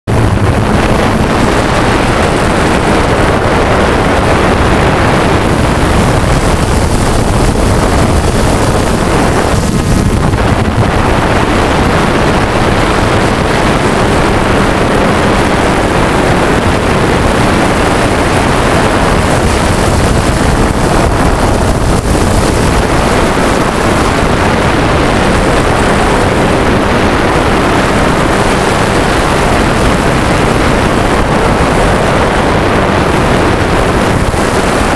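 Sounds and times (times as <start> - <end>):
wind on microphone: 0.0 - 34.9
drone propellers whirring: 0.1 - 34.9.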